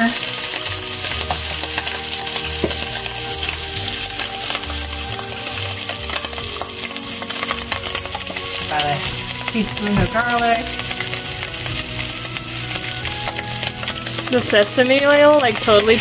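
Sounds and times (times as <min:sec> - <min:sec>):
meat sizzling in a skillet: 0:00.0 - 0:16.0.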